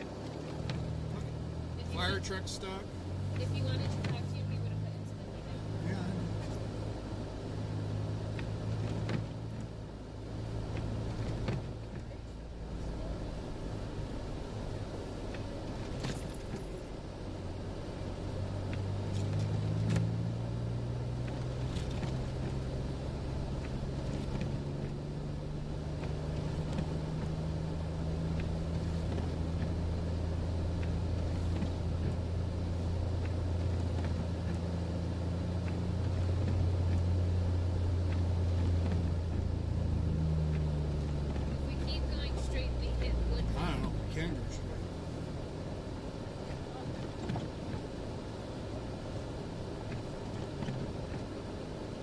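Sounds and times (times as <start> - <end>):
car engine droning while driving: 0.0 - 52.0.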